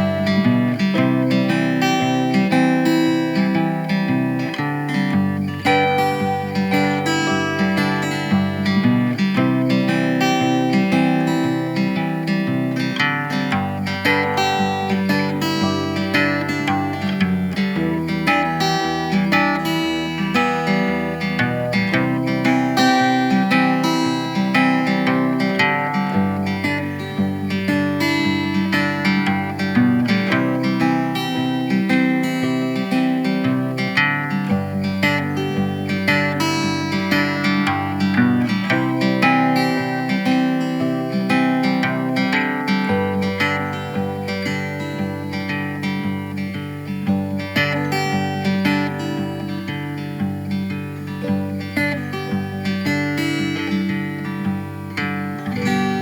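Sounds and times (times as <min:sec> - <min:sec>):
acoustic guitar music: 0:00.0 - 0:56.0.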